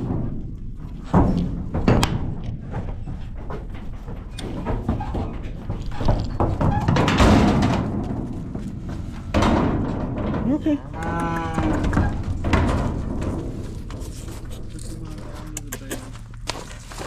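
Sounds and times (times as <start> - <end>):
cattle hooves thudding in trailer: 0.0 - 15.5
clattering and scuffling: 0.0 - 17.0.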